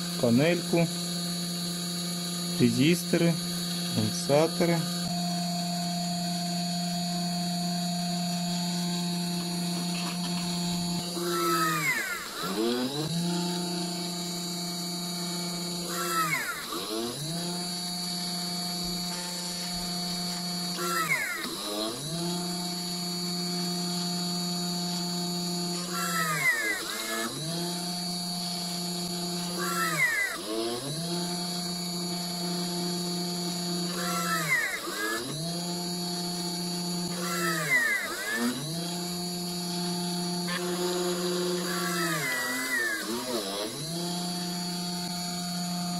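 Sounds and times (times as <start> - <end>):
small drill drilling circuit board: 0.0 - 45.9.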